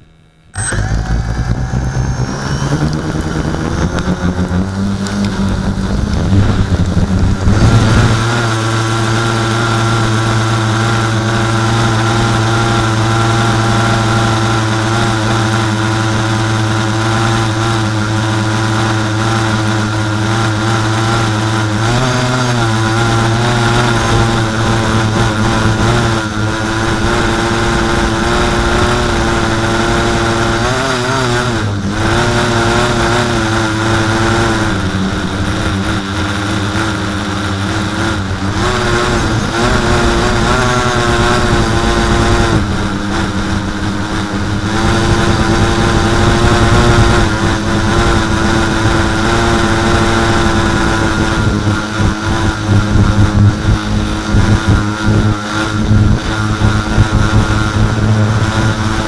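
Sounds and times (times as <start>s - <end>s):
drone motors buzzing: 0.0s - 59.0s.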